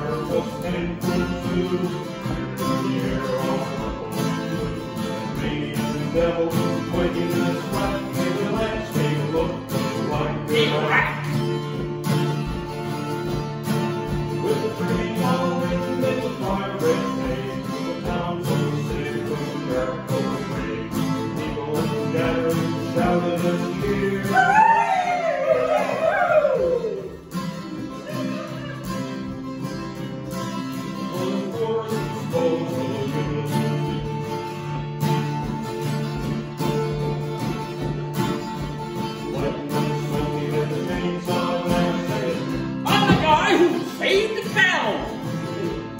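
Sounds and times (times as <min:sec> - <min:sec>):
acoustic guitars strumming: 0:00.0 - 0:45.9.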